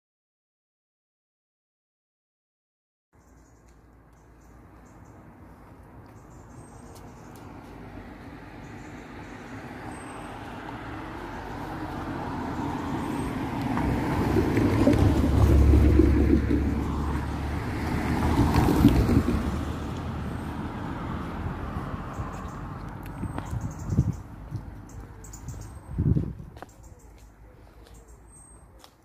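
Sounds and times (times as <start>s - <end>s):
vehicles passing: 3.2s - 29.0s.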